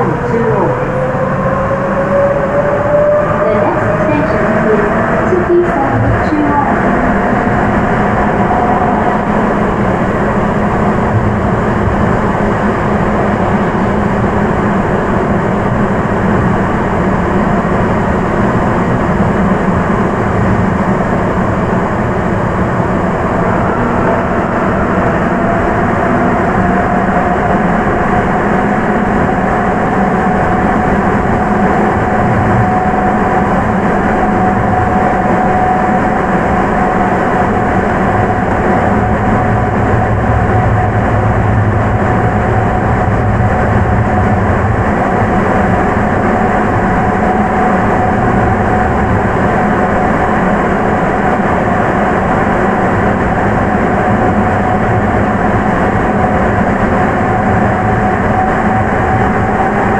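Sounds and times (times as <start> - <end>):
train rolling rumble: 0.0 - 59.9.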